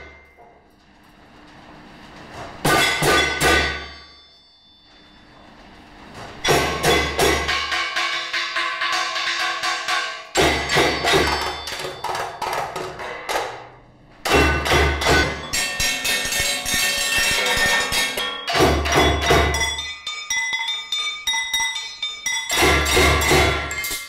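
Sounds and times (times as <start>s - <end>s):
ringing metal tones: 0.0s - 0.6s, 2.7s - 24.0s
rapid strikes on hammers and tools: 2.3s - 4.3s, 6.2s - 24.0s.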